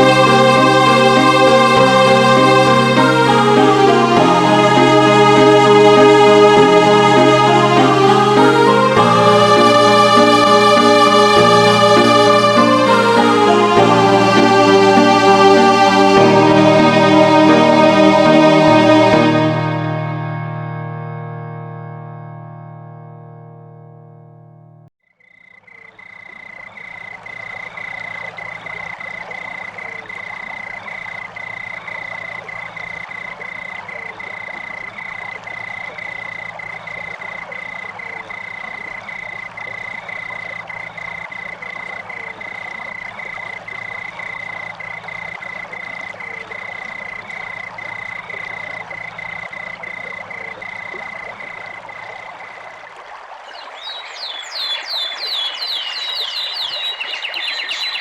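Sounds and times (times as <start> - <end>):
frogs trilling: 0.0 - 19.3, 25.0 - 58.0.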